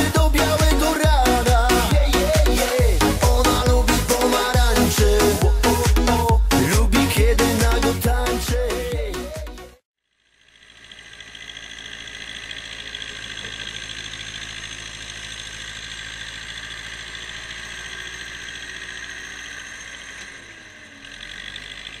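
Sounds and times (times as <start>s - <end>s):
tractor diesel engine running: 0.0s - 9.4s, 10.4s - 22.0s.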